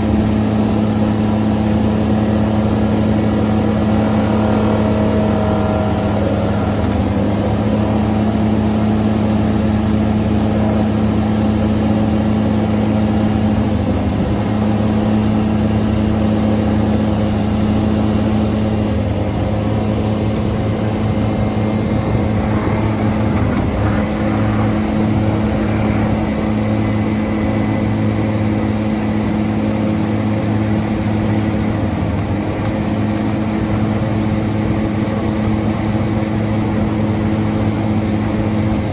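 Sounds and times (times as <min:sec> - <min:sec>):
excavator machine drone: 0:00.0 - 0:38.9.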